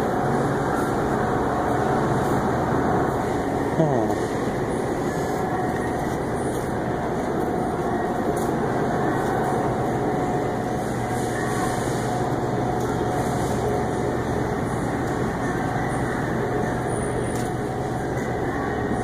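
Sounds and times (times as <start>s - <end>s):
refrigeration fans humming: 0.0s - 19.0s.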